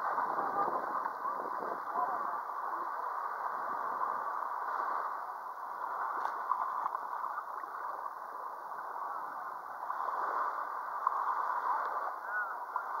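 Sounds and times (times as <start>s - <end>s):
beach background hiss: 0.0s - 13.0s.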